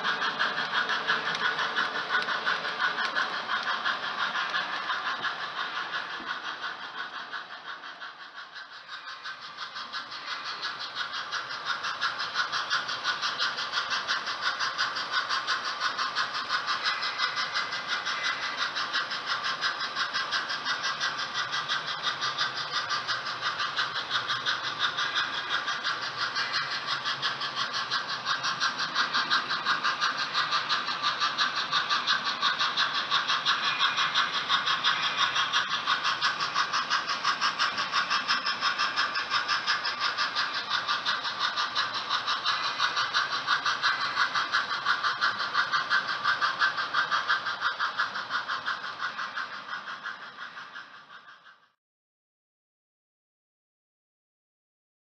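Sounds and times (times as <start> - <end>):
model train clattering on track: 0.0 - 51.7.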